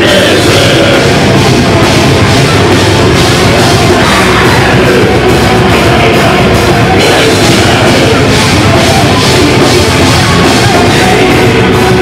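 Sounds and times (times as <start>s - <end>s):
distorted electric guitar: 0.0s - 12.0s
drum kit: 0.0s - 12.0s
shouted vocals: 0.0s - 12.0s.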